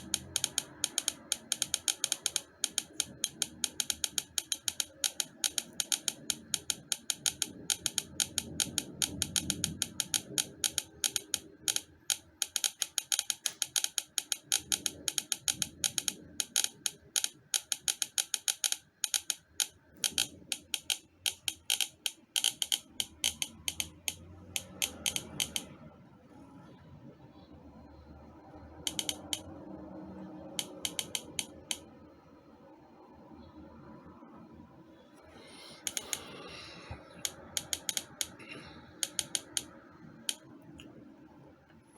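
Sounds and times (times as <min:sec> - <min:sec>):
rapid sharp clicks: 0:00.0 - 0:25.7, 0:28.8 - 0:31.9, 0:35.4 - 0:40.6.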